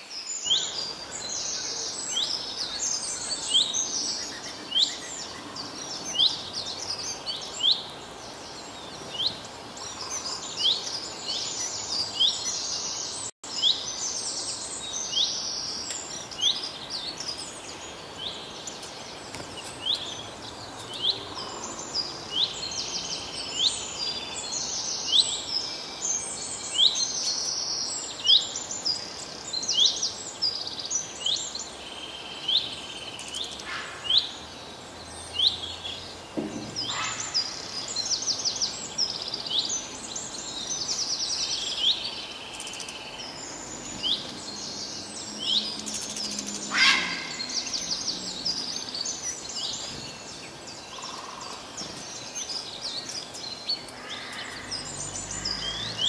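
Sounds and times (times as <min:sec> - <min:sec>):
faint outdoor hiss: 0:00.0 - 0:56.0
small songbirds chirping: 0:00.0 - 0:56.0.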